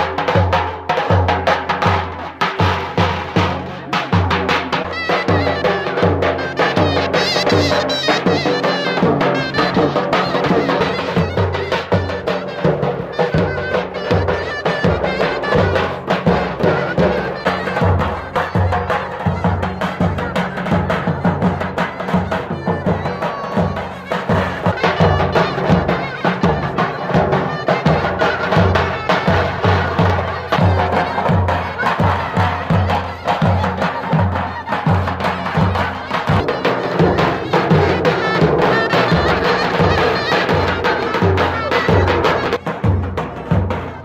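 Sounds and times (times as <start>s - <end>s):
loud reedy shawm melody: 0.0s - 44.0s.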